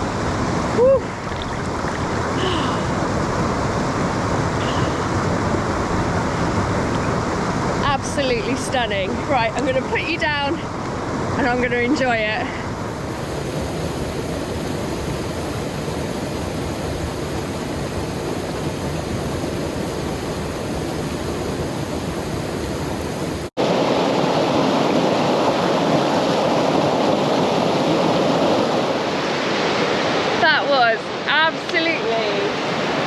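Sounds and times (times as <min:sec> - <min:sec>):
waterfall rushing into pool: 0:00.0 - 0:33.0.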